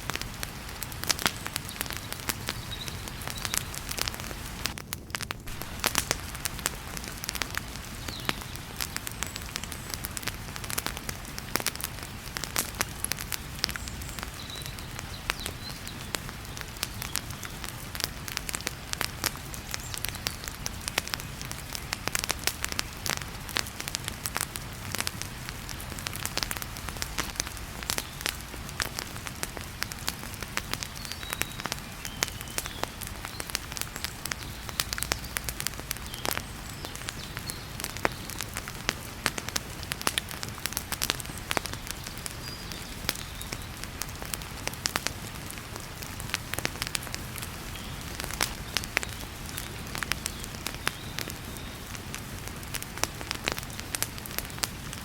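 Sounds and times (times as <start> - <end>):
heavy rain hiss: 0.0 - 4.8, 5.4 - 55.0
wood fire crackling and popping: 0.0 - 55.0.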